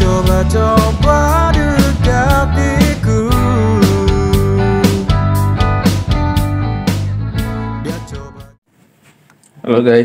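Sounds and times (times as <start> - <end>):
intro music with struck notes: 0.0 - 8.5.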